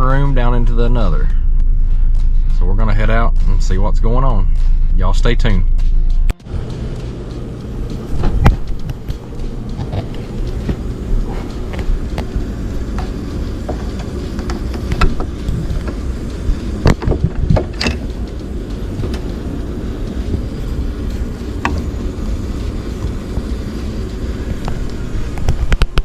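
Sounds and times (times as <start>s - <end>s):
vehicle road and engine rumble: 0.0s - 26.0s.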